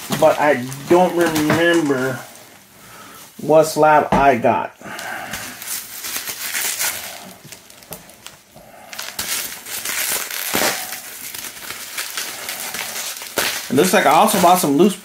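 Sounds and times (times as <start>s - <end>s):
packaging crinkling and rustling: 0.0s - 3.5s, 4.9s - 15.0s.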